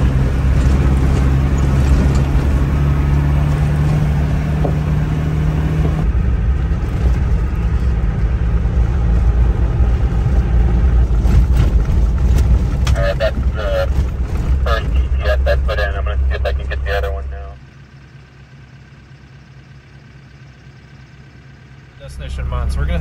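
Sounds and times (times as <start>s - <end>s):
diesel engine running: 0.0s - 23.0s
road noise: 0.0s - 23.0s.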